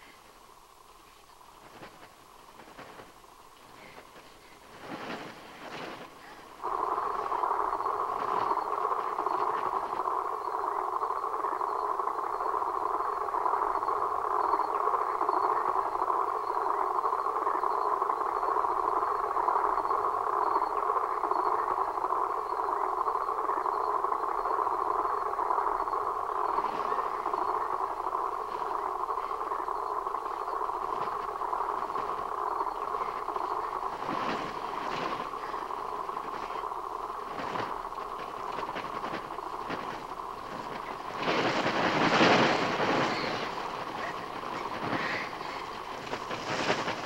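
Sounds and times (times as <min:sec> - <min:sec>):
electronic droning hiss: 0:00.0 - 0:47.0
faint high whine: 0:00.0 - 0:47.0.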